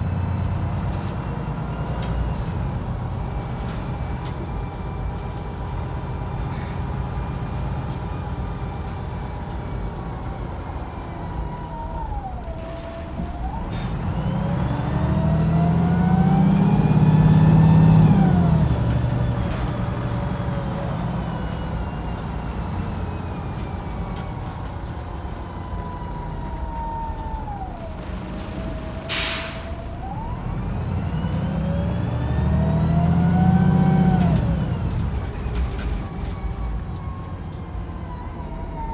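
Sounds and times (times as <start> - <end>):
bus engine and driveline whine: 0.0 - 38.9.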